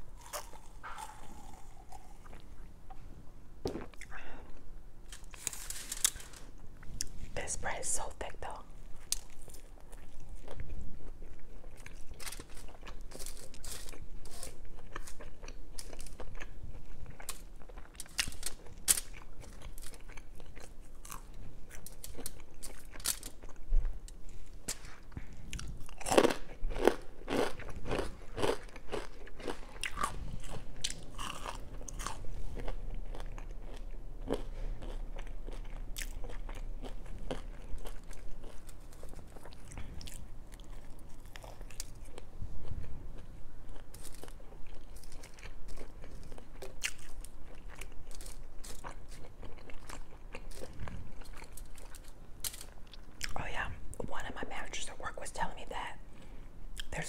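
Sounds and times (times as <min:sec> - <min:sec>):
chewing and crunching food: 0:00.0 - 0:03.1, 0:08.4 - 0:54.7.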